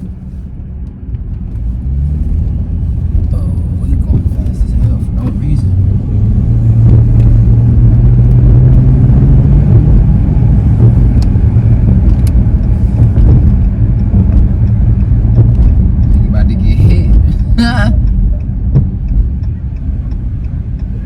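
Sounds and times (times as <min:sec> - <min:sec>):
car engine drone: 0:00.0 - 0:21.0
road noise: 0:00.0 - 0:21.0.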